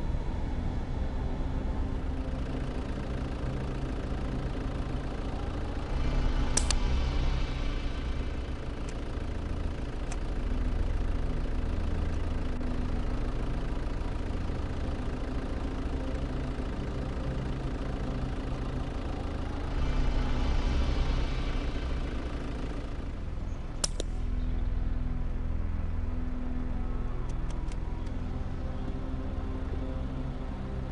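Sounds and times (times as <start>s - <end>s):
vehicle engine idling: 0.0s - 30.9s.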